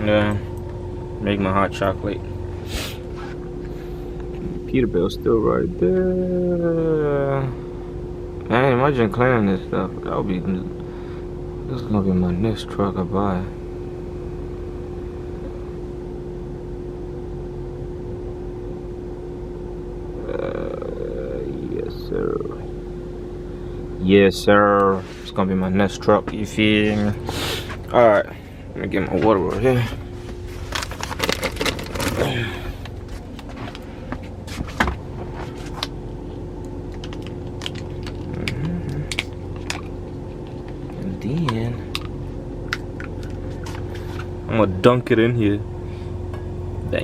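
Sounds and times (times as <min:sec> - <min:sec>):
truck engine idling: 0:00.0 - 0:24.6, 0:25.8 - 0:47.0
steady low hum: 0:00.0 - 0:47.0.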